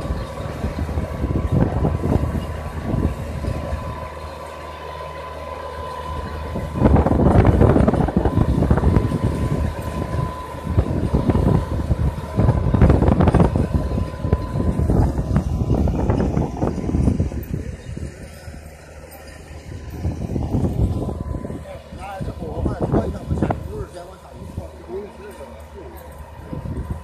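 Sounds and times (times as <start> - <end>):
wind buffeting microphone: 0.0 - 4.5, 6.0 - 27.0
tractor engine running: 0.0 - 27.0.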